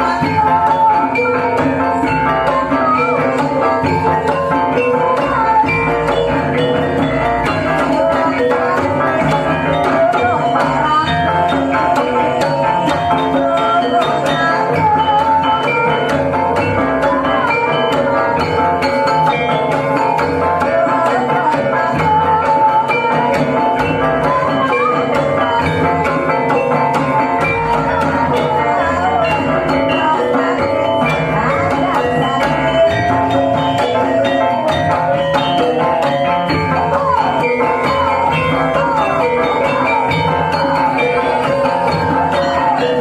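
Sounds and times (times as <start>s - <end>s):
gamelan ensemble playing: 0.0s - 43.0s.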